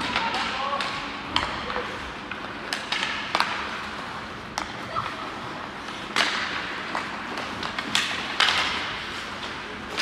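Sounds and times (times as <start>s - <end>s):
hockey sticks knocking puck: 0.0s - 4.8s, 5.8s - 10.0s
skates scraping on ice: 1.6s - 10.0s.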